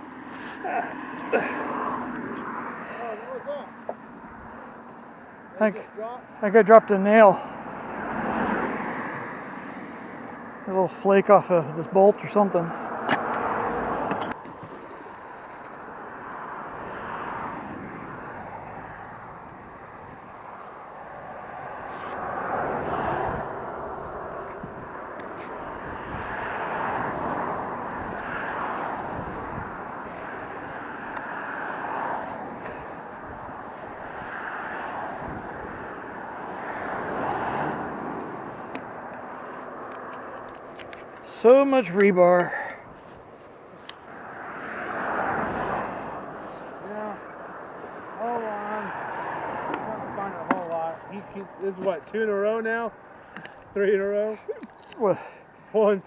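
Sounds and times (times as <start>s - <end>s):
road traffic hum: 0.0s - 56.0s
vehicle passing: 0.0s - 56.0s.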